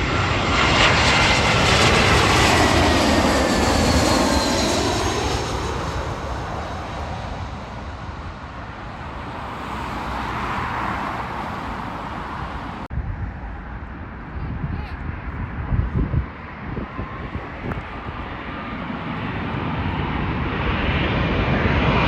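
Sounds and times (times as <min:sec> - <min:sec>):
jet airliner engine roar: 0:00.0 - 0:22.0.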